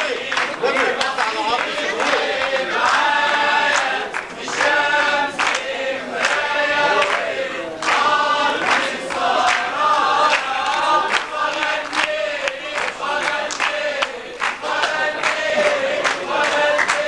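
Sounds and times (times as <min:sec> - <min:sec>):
group singing in unison: 0:00.0 - 0:17.0.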